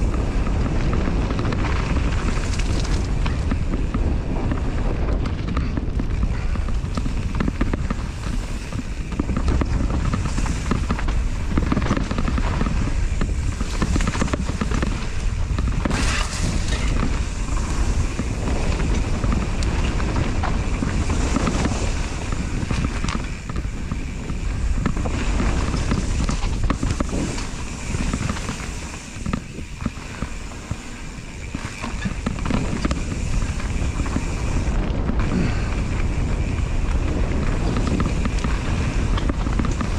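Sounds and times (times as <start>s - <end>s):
bike tyres rumbling on rough trail: 0.0s - 39.9s
wind buffeting microphone: 0.0s - 39.9s.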